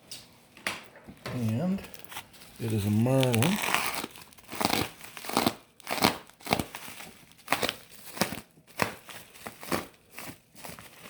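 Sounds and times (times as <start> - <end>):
packing wrap crinkling and tearing: 1.4 - 11.0.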